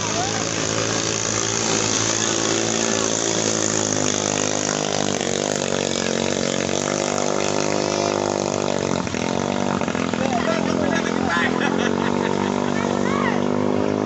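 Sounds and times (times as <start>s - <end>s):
boat engines high-revving drone: 0.0s - 14.0s.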